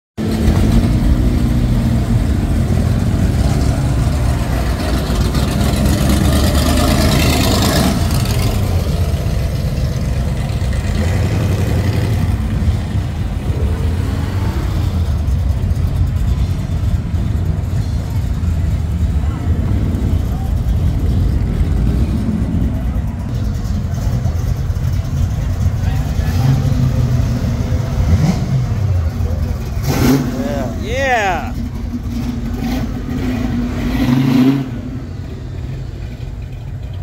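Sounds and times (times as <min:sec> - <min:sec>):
car engine rumbling: 0:00.2 - 0:37.0.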